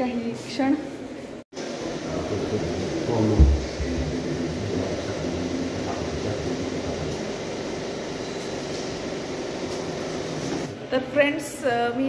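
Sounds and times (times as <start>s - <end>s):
room noise: 0.0s - 11.9s
low mechanical hum: 0.8s - 11.9s.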